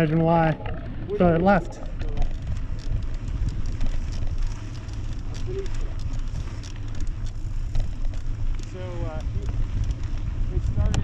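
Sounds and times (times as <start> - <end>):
tyres crackling on dirt trail: 0.0 - 11.0
wind buffeting microphone: 0.0 - 11.0.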